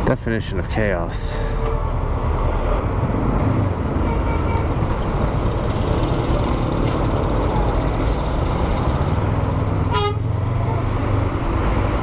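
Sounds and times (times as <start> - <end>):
road noise: 0.0 - 12.0
traffic engines rumbling: 0.0 - 12.0.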